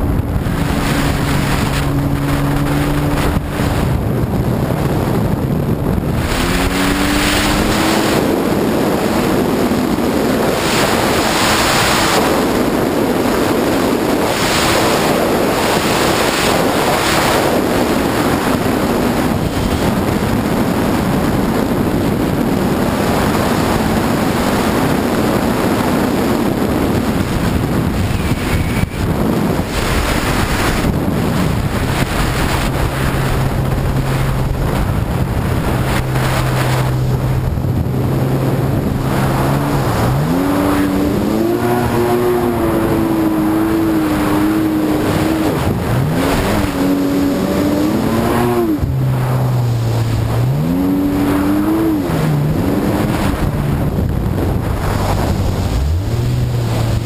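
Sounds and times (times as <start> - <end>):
water rushing along hull: 0.0 - 57.0
watercraft engine: 0.0 - 57.0
wind buffeting microphone: 0.0 - 57.0.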